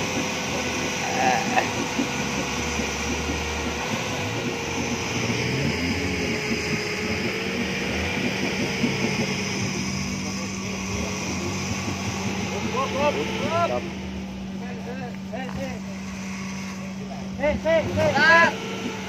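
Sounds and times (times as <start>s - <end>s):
steady engine note: 0.0s - 19.0s
wavering off-road engine: 0.0s - 19.0s.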